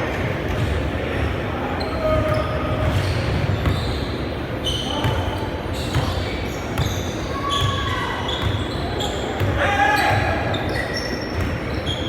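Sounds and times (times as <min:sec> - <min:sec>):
players' voices echoing: 0:00.0 - 0:12.0
sneakers squeaking: 0:00.0 - 0:12.0.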